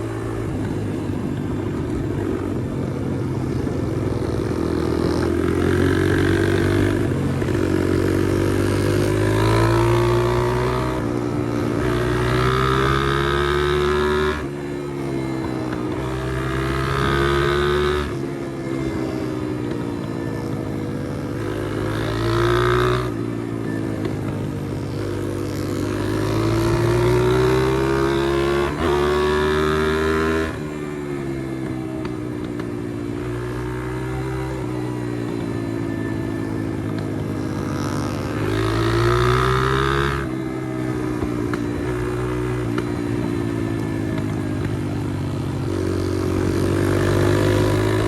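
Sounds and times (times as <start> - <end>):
motorbike engine revving: 0.0 - 48.0.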